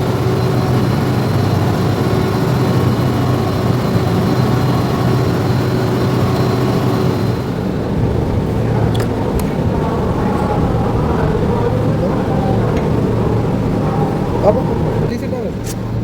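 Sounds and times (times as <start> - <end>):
diesel generator engine running: 0.0 - 16.0
faint steady whine: 0.0 - 16.0.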